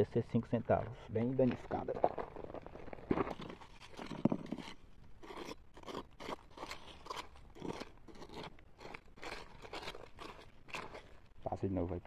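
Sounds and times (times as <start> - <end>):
gravel crunching and scraping: 0.0 - 12.0.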